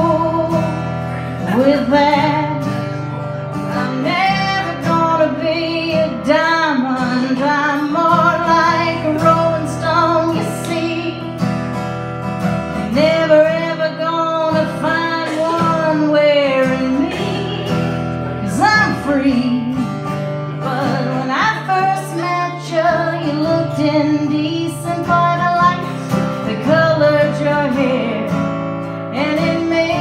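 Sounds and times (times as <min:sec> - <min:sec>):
woman singing with vibrato: 0:00.0 - 0:11.5, 0:12.8 - 0:30.0
strummed acoustic guitar: 0:00.0 - 0:30.0.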